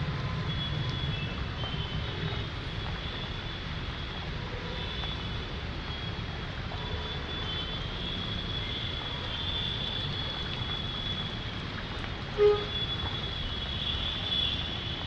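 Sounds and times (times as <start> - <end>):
rushing rain and floodwater: 0.0 - 15.0.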